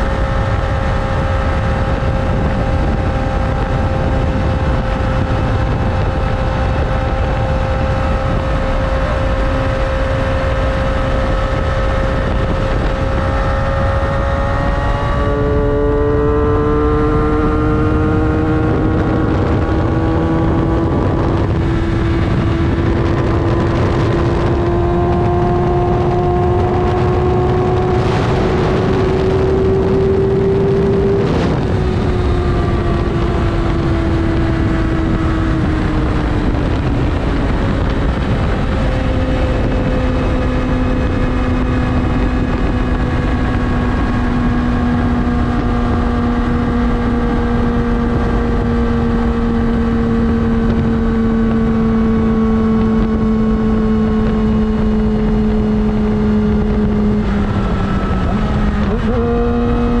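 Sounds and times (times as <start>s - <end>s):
motorcycle engine at speed: 0.0s - 60.0s
wind rush on microphone: 0.0s - 60.0s.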